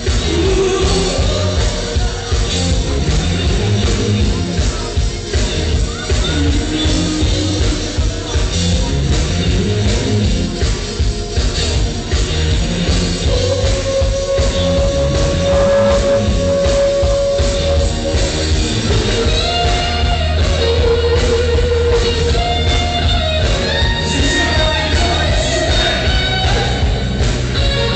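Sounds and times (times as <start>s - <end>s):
loud music with heavy bass: 0.0s - 27.9s.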